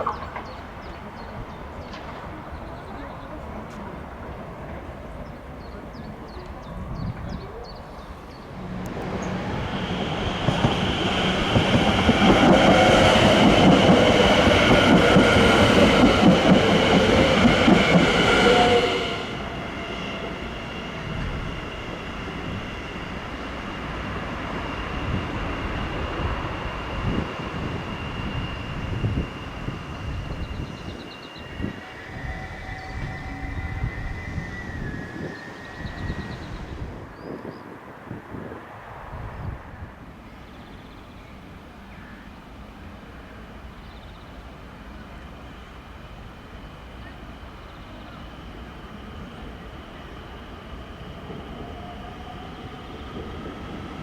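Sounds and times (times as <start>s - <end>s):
electric train running on track: 0.0s - 54.0s.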